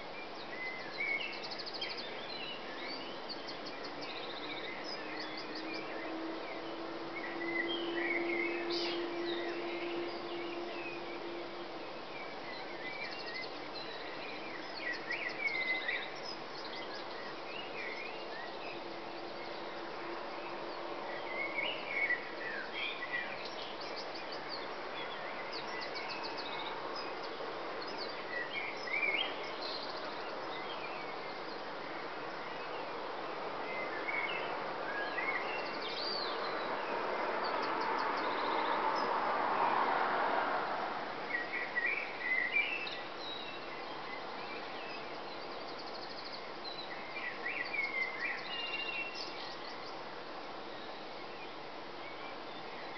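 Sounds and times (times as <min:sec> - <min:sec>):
birds chirping and trilling: 0:00.0 - 0:39.2, 0:41.3 - 0:52.9.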